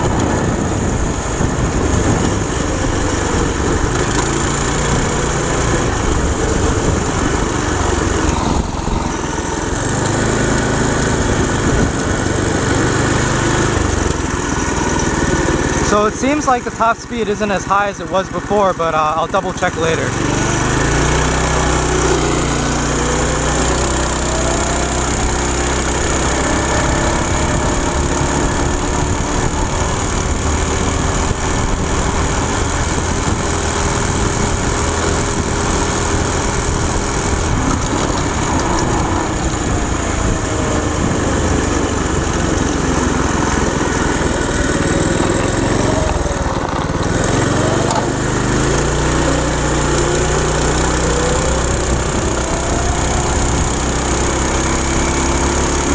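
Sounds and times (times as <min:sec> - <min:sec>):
go-kart engine running hard: 0:00.0 - 0:55.9.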